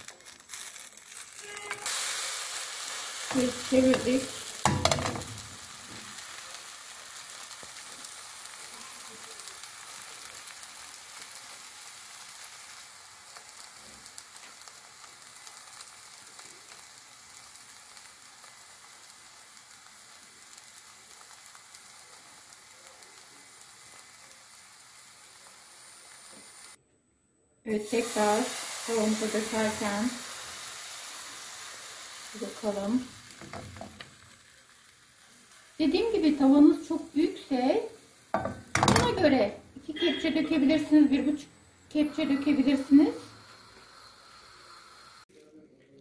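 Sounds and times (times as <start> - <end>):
flatbread sizzling in oil: 0.0 - 26.8, 27.7 - 45.3.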